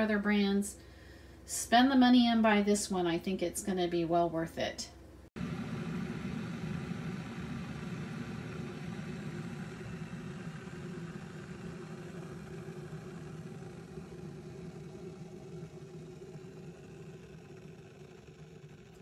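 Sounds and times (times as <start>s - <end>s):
electric kettle heating water: 0.0s - 19.0s.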